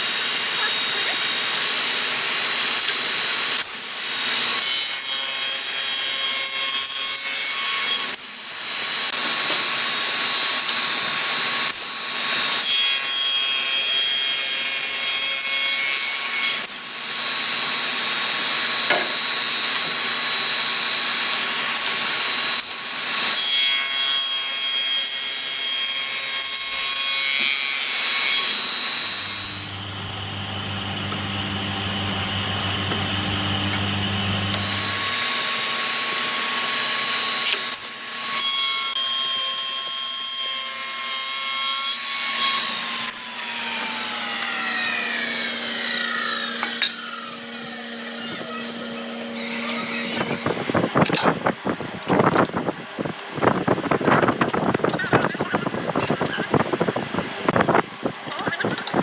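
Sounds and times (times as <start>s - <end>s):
power tool cutting hardwood: 0.0s - 51.5s.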